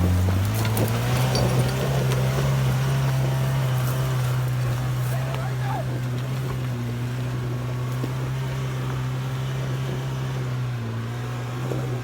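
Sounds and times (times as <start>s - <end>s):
jeep engine running hard: 0.0s - 12.0s.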